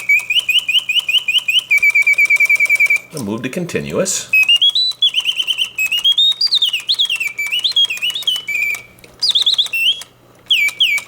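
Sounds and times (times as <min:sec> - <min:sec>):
mechanical bird warbling chirps: 0:00.0 - 0:03.1, 0:04.3 - 0:11.0.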